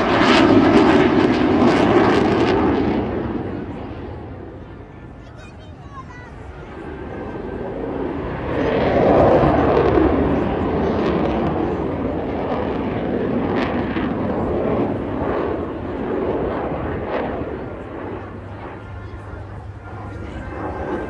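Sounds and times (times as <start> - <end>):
loud aircraft roar: 0.0 - 21.0.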